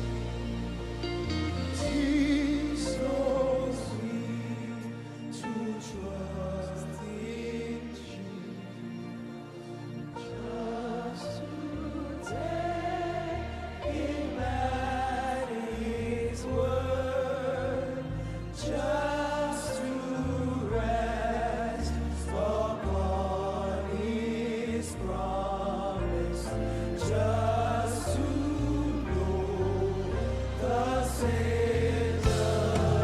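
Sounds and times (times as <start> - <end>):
bass and keyboard chords: 0.0 - 33.0
voices singing slow melody: 0.0 - 33.0.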